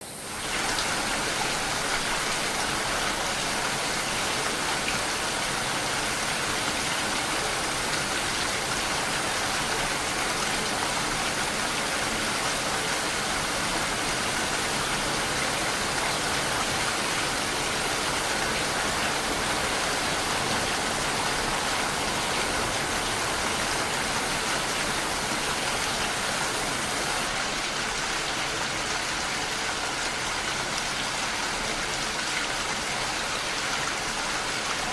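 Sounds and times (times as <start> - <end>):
rain falling on a surface: 0.0 - 34.9.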